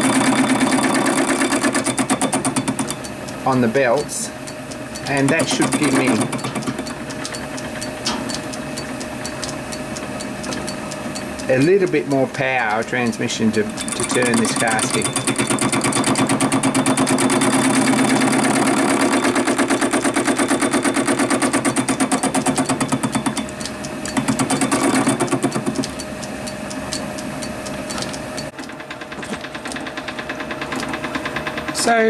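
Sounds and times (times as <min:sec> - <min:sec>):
lathe cutting metal: 0:00.0 - 0:27.7.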